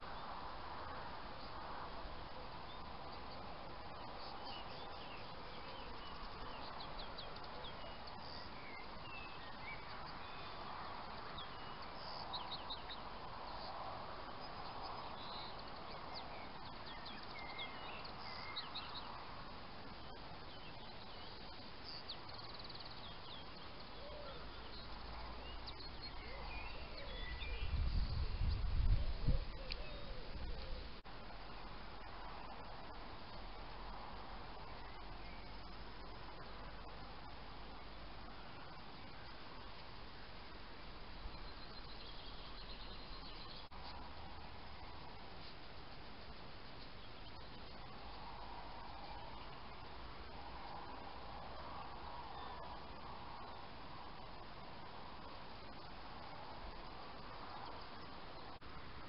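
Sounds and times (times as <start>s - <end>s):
steady background noise: 0.0s - 59.0s
small birds chirping: 1.3s - 59.0s.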